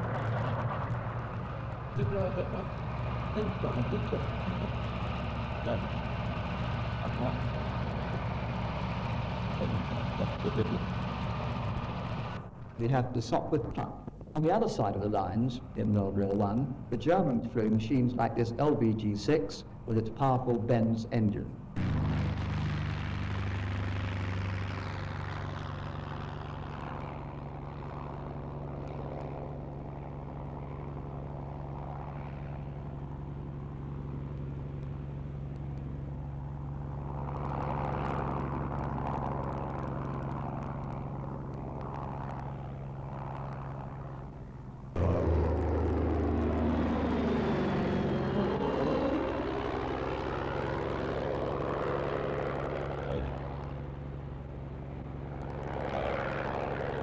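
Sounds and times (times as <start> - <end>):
propeller aircraft engine: 0.0 - 57.0.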